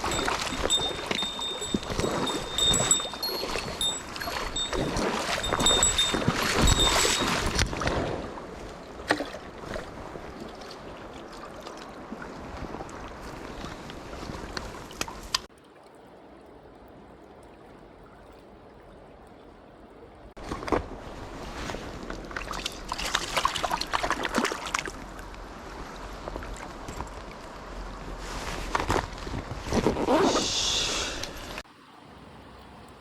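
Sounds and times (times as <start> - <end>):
stream water trickling: 0.0 - 29.3, 31.0 - 33.0
water splashing and sloshing: 0.0 - 30.1.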